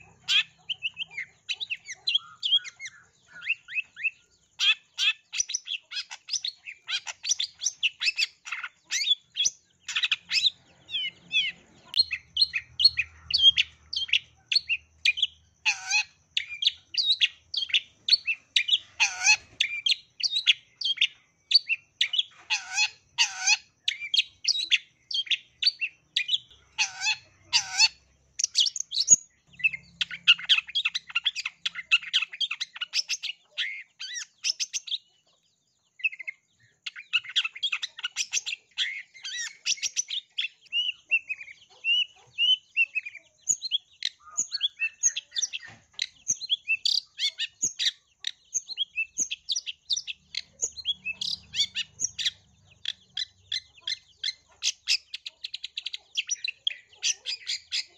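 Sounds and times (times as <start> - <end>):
bird chattering song: 0.0 - 57.9.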